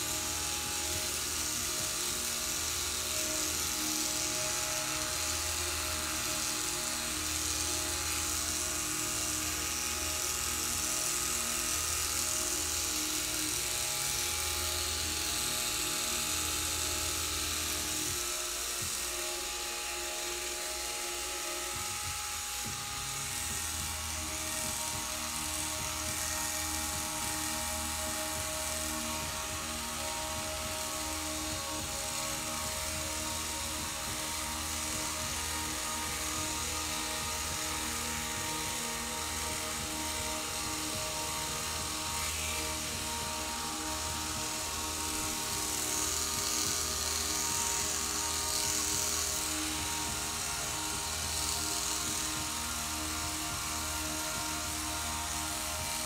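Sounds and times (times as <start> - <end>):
electric clippers buzzing: 0.0 - 56.0
music with low beat: 0.0 - 56.0.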